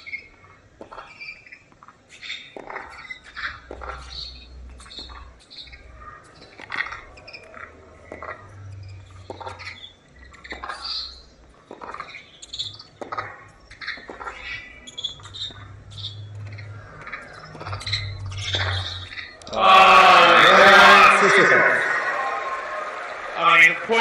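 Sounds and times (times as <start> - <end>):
sneakers squeaking on court: 0.0 - 19.4.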